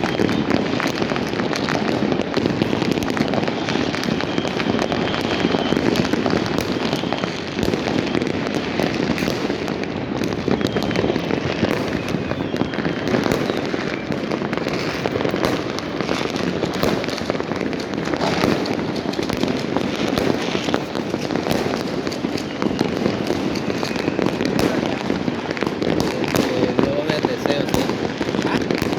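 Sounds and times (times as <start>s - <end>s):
fireworks and firecrackers bangs: 0.0s - 28.9s.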